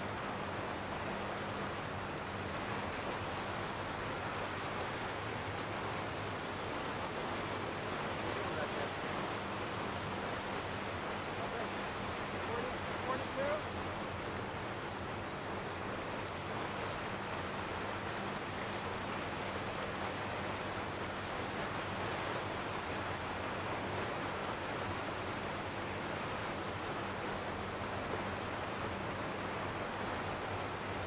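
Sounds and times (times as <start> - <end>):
small waves in shallow water: 0.0 - 31.0
wind: 0.0 - 31.0.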